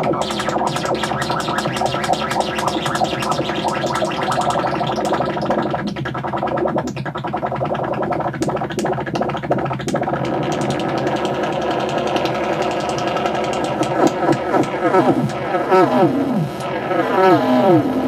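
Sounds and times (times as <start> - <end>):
fast flutter of clicks: 0.0 - 15.4
electronic drone: 0.0 - 18.0.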